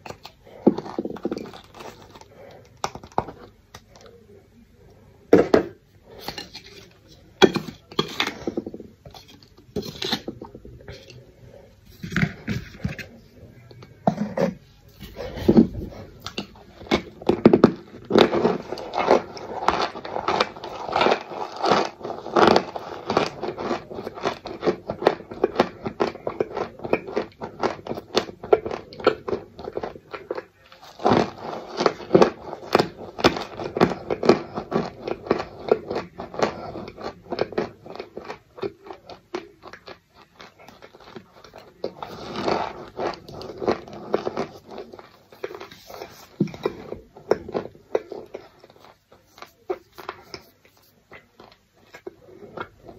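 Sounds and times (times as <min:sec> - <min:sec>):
crunchy chewing: 0:00.0 - 0:04.2, 0:14.1 - 0:52.9.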